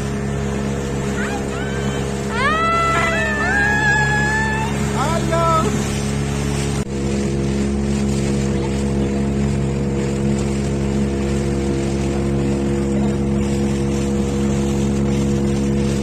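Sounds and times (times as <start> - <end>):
rush of wind and water: 0.0 - 16.0
speedboat engine running: 0.0 - 16.0.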